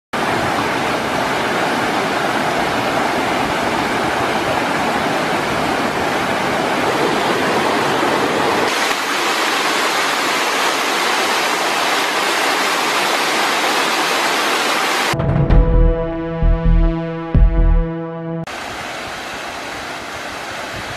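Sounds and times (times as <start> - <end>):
water rushing over rocks: 0.2 - 15.2, 18.5 - 20.9
waterfall rushing: 0.2 - 15.2, 18.5 - 20.9.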